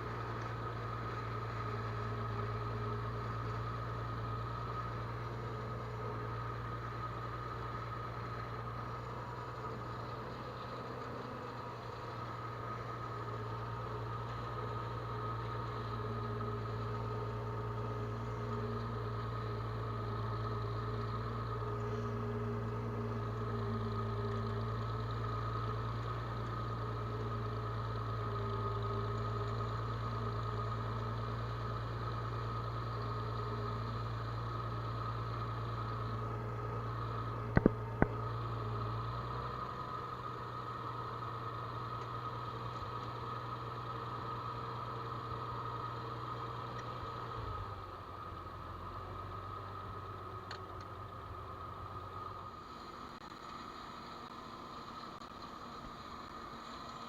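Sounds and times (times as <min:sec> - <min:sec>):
farm machinery engine running: 0:00.0 - 0:57.0.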